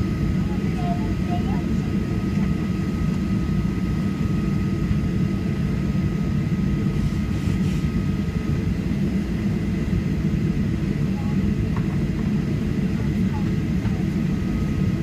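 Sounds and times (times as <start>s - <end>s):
jet engines idling cabin rumble: 0.0s - 15.0s.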